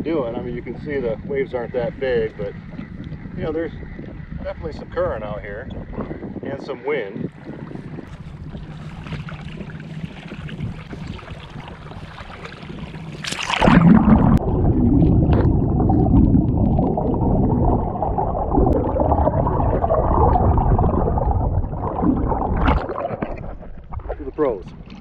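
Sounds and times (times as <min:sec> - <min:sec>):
low steady hum: 0:00.0 - 0:25.0
water gurgling and sloshing: 0:00.0 - 0:25.0.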